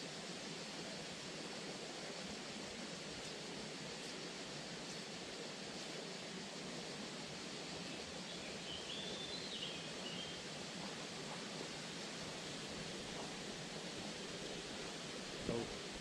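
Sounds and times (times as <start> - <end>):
outdoor ambient hiss: 0.0 - 16.0.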